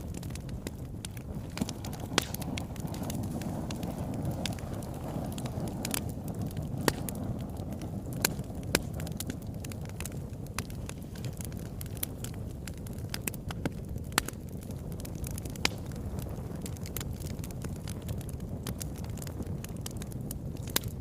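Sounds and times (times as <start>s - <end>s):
wood fire burning: 0.0s - 21.0s.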